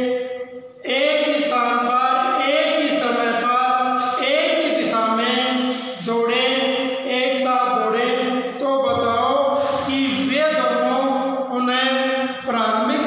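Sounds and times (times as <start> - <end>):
man talking: 0.8 - 13.0.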